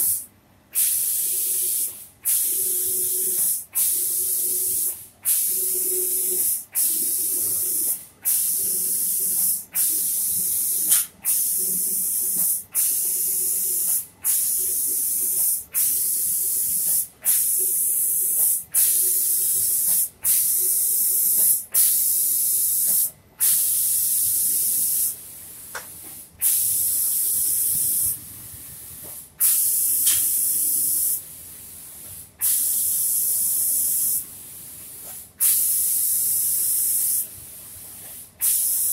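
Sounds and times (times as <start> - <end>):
spray gun hissing: 0.0 - 0.2, 0.8 - 25.7, 26.4 - 38.9.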